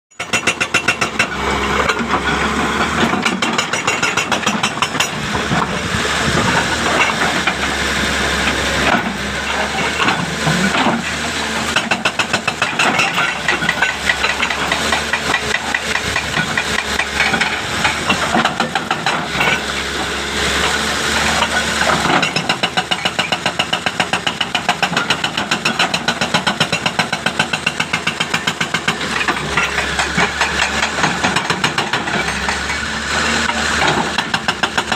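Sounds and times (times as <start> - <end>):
hydraulic breaker hammering: 0.2 - 19.8, 21.2 - 32.8.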